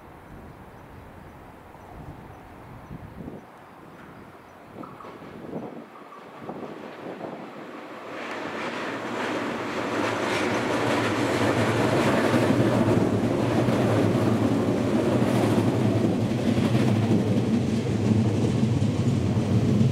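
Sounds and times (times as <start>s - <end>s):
train wheels running on rails: 1.8s - 19.9s.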